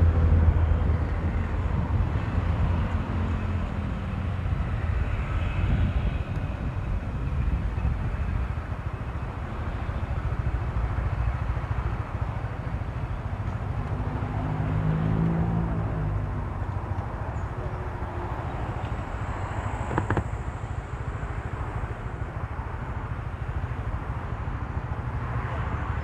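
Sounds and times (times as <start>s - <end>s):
wind buffeting microphone: 0.0s - 14.4s, 15.8s - 25.2s
motorcycle engine: 1.7s - 25.4s.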